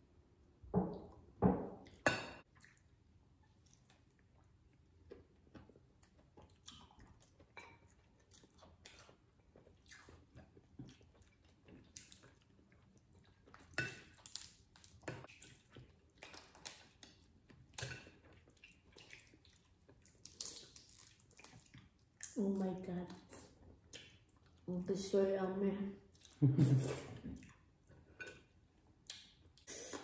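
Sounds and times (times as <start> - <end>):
chewing and wet mouth noises: 1.8 - 24.7, 26.0 - 30.0.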